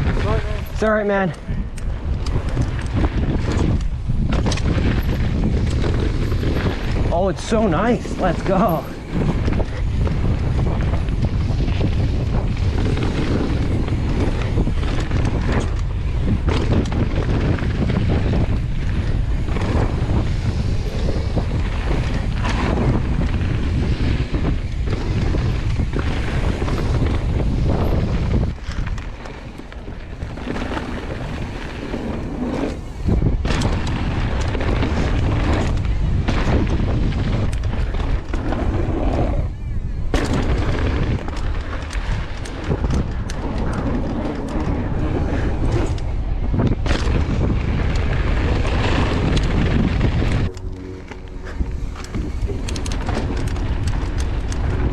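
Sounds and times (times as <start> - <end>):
bike knocking and rattling: 0.0 - 54.9
wind buffeting microphone: 0.0 - 54.9.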